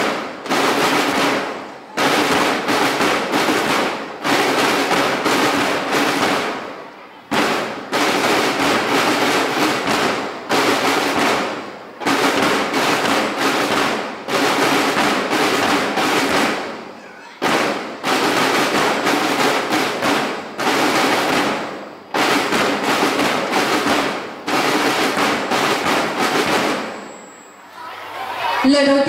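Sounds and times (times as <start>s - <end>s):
firecrackers crackling: 0.0s - 28.8s.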